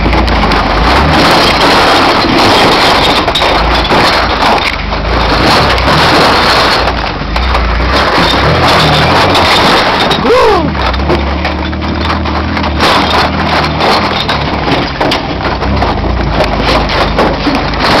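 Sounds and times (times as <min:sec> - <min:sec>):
body rattling and knocking: 0:00.0 - 0:18.0.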